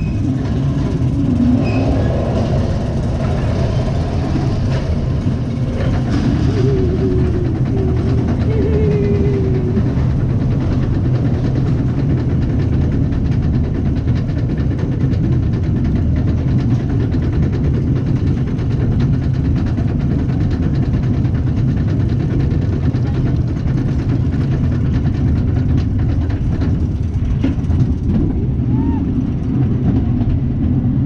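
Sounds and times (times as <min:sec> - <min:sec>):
roller coaster lift rumble: 0:00.0 - 0:31.0.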